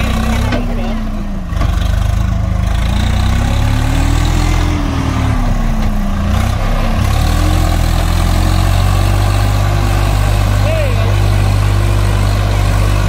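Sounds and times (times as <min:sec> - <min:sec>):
heavy diesel engine revving: 0:00.0 - 0:13.0.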